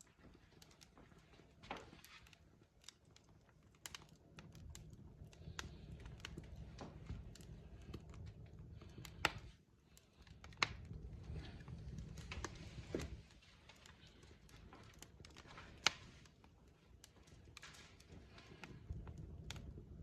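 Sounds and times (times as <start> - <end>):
low steady fire rumble: 0.0 - 20.0
wood fire crackling and popping: 0.0 - 20.0.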